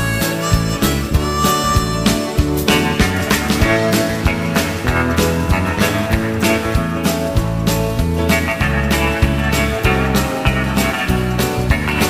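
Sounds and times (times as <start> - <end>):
country band music: 0.0 - 12.0
drums beating steadily: 0.0 - 12.0.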